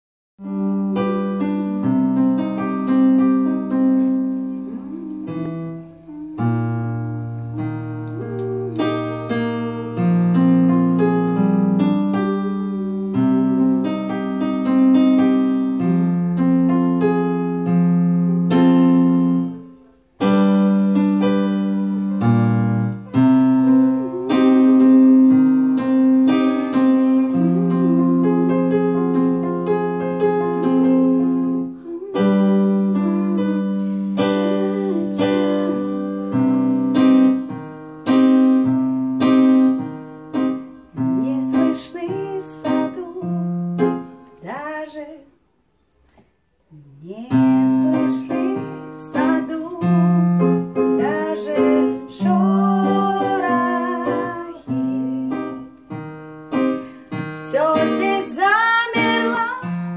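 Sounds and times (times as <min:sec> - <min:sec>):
digital piano playing: 0:00.4 - 0:44.4, 0:47.3 - 0:59.9.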